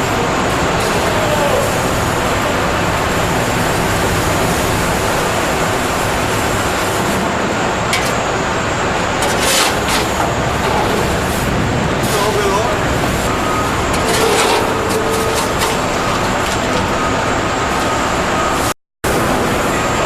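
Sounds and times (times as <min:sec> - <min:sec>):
loud machinery noise: 0:00.0 - 0:20.0.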